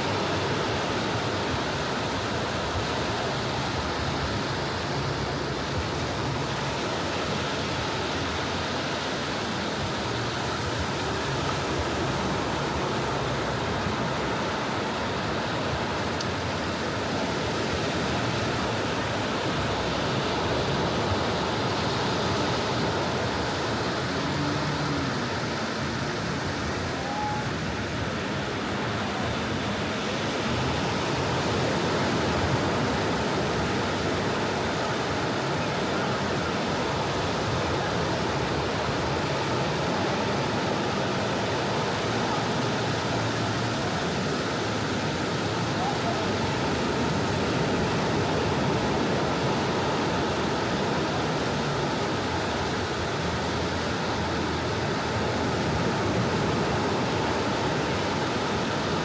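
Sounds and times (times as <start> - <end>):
ocean waves washing onto beach: 0.0 - 59.0.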